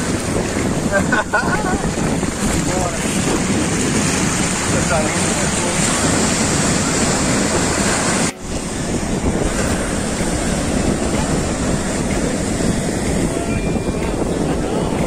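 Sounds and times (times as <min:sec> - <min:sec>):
ocean surf breaking on beach: 0:00.0 - 0:15.0
wind buffeting microphone: 0:00.0 - 0:15.0.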